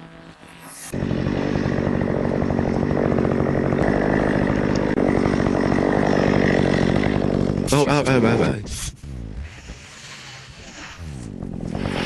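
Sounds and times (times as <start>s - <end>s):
chainsaw engine running: 0.0s - 9.6s, 11.0s - 12.0s.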